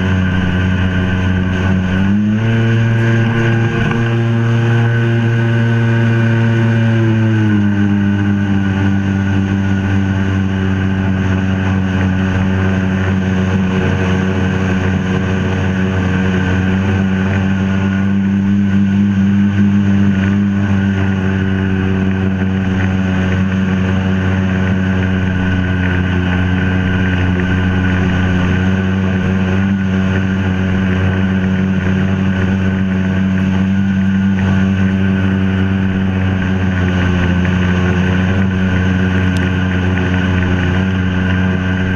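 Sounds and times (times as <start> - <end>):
watercraft engine droning: 0.0 - 41.9.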